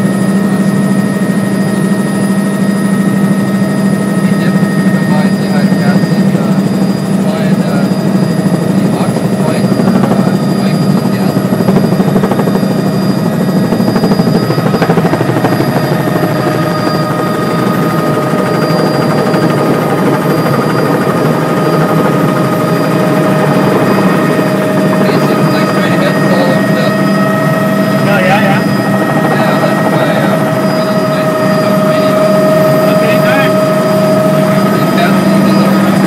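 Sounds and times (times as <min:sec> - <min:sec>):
helicopter rotor and engine drone: 0:00.0 - 0:36.0
high whining tones: 0:00.0 - 0:36.0.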